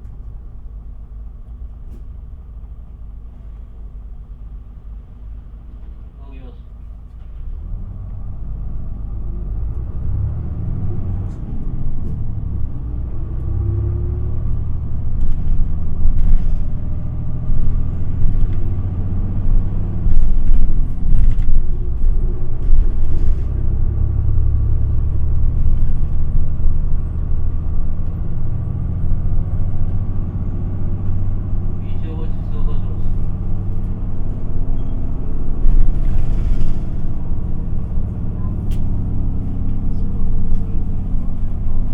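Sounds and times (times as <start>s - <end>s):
bus diesel engine and road rumble: 0.0s - 41.9s.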